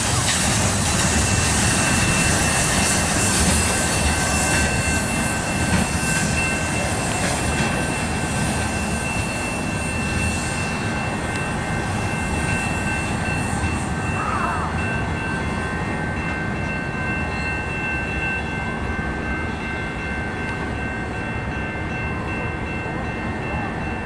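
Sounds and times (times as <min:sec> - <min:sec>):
steel wheels rumbling on rails: 0:00.0 - 0:24.0.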